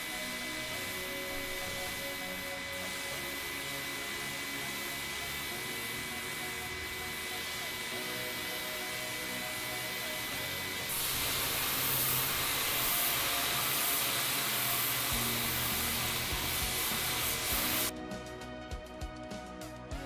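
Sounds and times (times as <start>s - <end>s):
pressure washer spraying water: 0.0s - 17.9s
background music: 0.0s - 20.0s.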